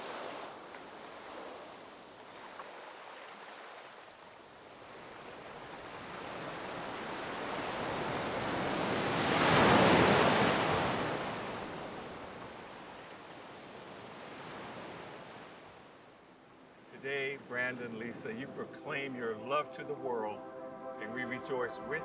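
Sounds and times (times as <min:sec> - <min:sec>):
sea surf washing: 0:00.0 - 0:15.9, 0:16.6 - 0:22.0.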